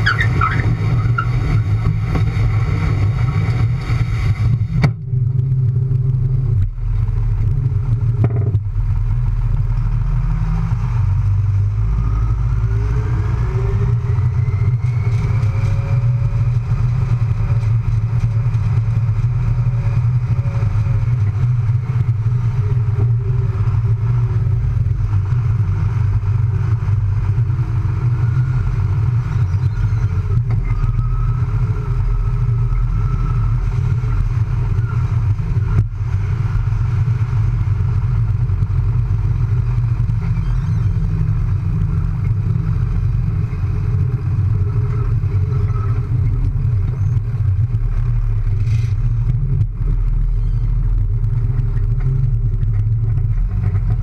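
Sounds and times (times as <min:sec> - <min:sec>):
tractor diesel engine rumbling: 0:00.0 - 0:54.0.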